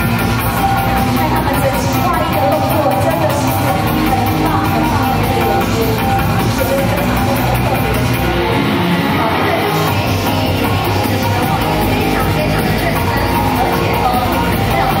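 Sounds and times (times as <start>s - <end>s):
pop song with sung vocal: 0.0s - 15.0s.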